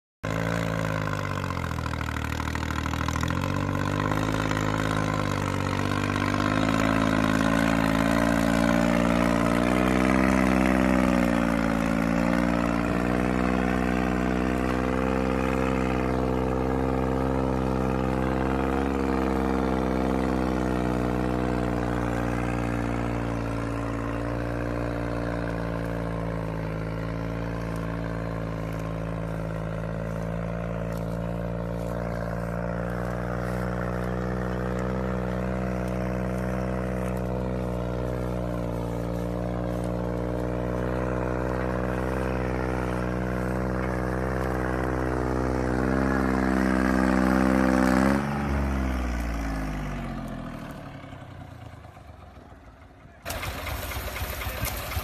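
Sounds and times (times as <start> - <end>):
tractor diesel engine working hard: 0.2 - 55.0.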